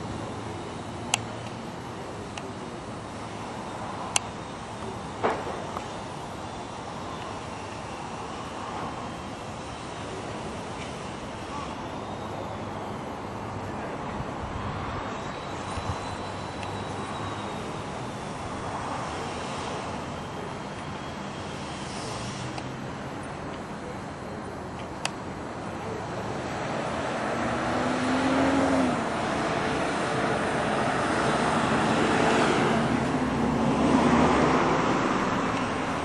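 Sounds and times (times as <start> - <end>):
passing vehicles rushing: 0.0 - 36.0.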